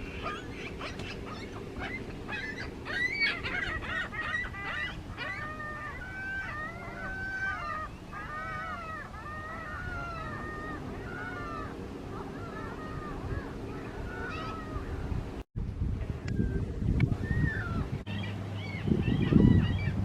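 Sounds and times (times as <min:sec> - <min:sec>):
gulls calling: 0:00.0 - 0:15.4, 0:16.3 - 0:20.0.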